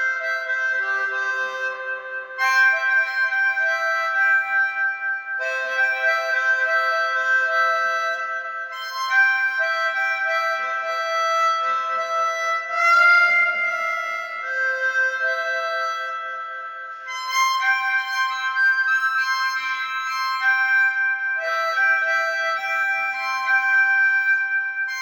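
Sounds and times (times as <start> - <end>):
harmonica playing chords: 0.0 - 25.0.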